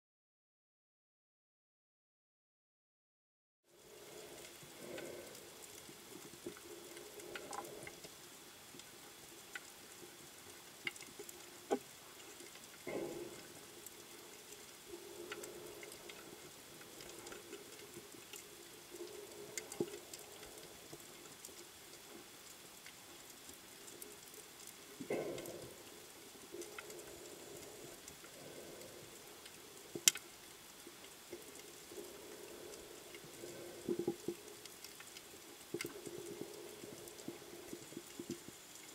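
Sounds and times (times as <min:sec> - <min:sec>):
faint crackle of clicks: 0:03.8 - 0:38.9.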